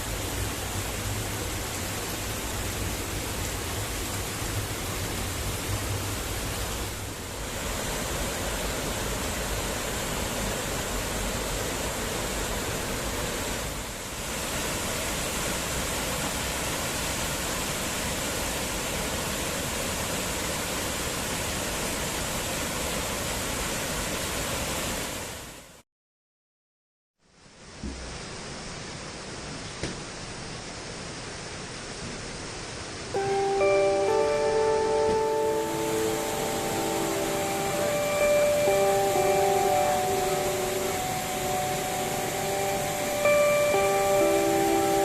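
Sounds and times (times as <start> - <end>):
waterfall rushing: 0.0 - 25.6, 28.0 - 45.0.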